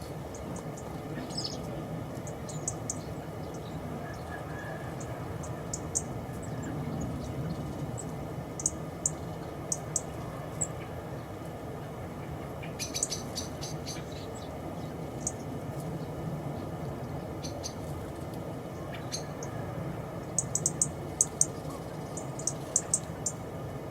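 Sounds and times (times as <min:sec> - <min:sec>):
small birds chirping: 0:00.0 - 0:04.4, 0:05.4 - 0:11.4, 0:12.2 - 0:17.9, 0:18.7 - 0:19.6, 0:20.2 - 0:23.4
low background noise: 0:00.0 - 0:23.9.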